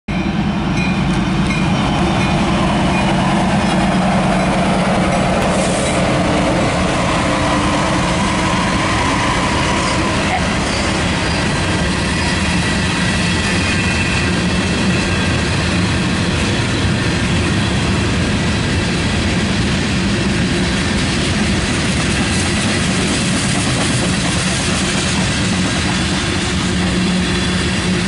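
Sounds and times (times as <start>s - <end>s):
locomotive engines droning: 0.1s - 28.0s
train wheels clattering on rails: 0.8s - 28.0s.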